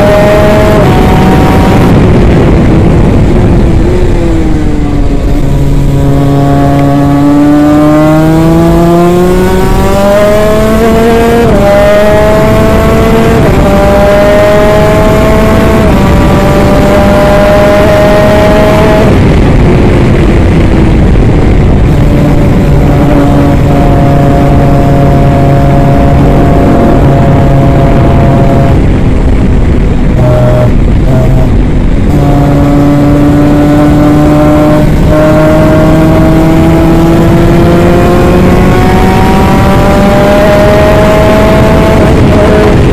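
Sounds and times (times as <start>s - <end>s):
two-stroke kart engine revving: 0.0s - 29.1s, 29.9s - 42.9s.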